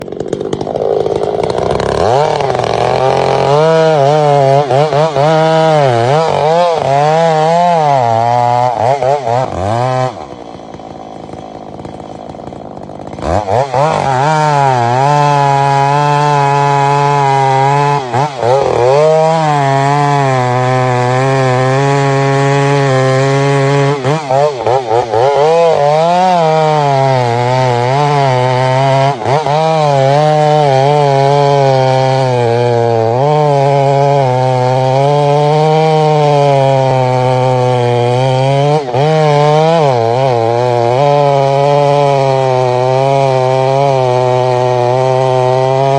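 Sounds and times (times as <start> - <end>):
chainsaw cutting tree trunk: 0.0 - 45.9.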